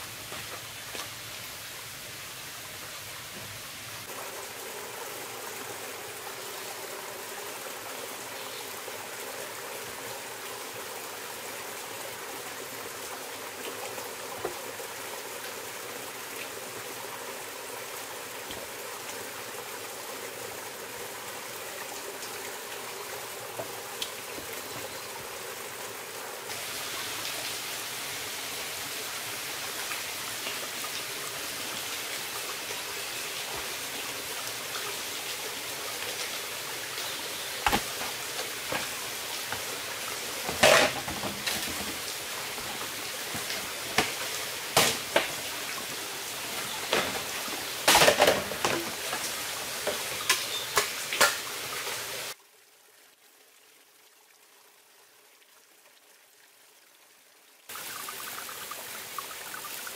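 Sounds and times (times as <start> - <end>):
stream water rushing: 0.0 - 52.4, 57.7 - 59.9.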